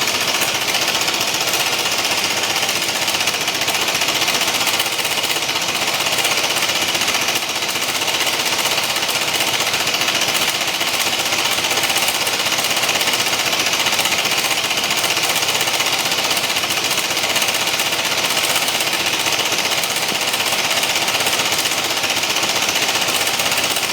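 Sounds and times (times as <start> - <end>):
scooter engine clattering: 0.0 - 23.9.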